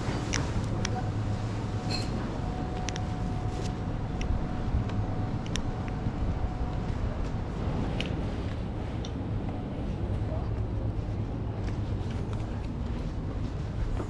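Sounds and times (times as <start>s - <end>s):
faint steady hum: 0.0s - 14.0s
low rumble: 0.0s - 14.0s.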